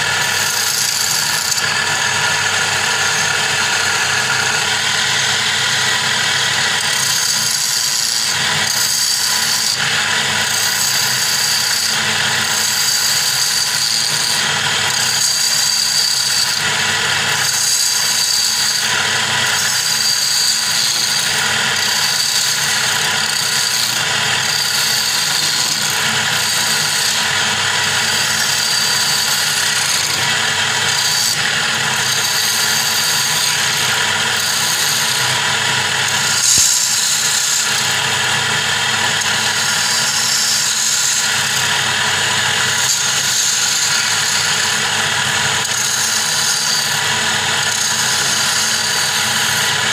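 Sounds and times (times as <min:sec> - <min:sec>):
chisel scraping spinning wood: 0:00.0 - 0:49.9
wood lathe running: 0:00.0 - 0:49.9.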